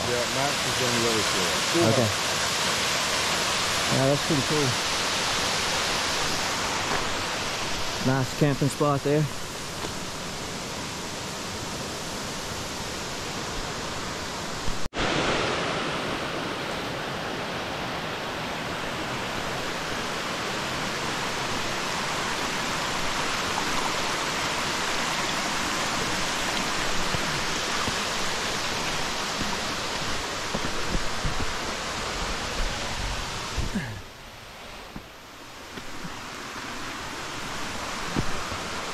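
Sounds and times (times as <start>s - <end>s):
creek water and waterfall rushing: 0.0s - 38.9s.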